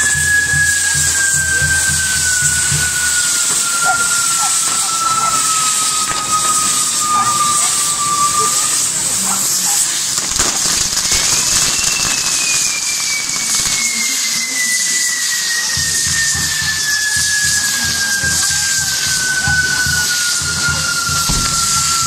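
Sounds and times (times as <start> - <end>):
firework crack: 0.0 - 22.0
firework whistling: 0.0 - 22.0
fireworks fountains hissing: 0.0 - 22.0.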